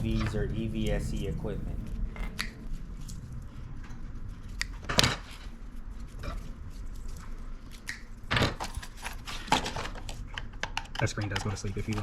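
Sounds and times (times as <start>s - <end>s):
low steady hum: 0.0s - 10.7s.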